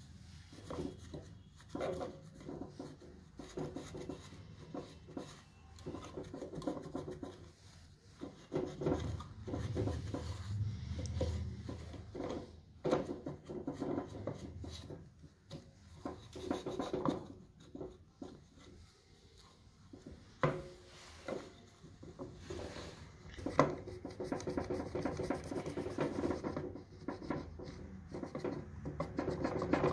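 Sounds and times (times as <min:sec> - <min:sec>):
rubbing and scraping: 0:00.0 - 0:29.9.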